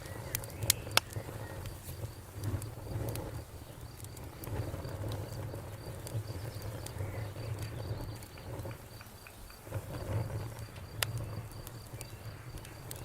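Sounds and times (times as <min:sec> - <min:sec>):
campfire crackling: 0:00.0 - 0:13.0
cricket chirping: 0:00.0 - 0:13.0.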